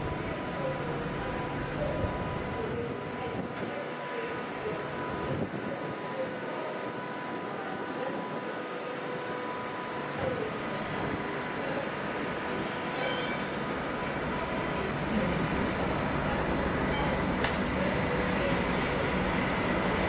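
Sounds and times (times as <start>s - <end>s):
train hum: 0.0s - 20.0s.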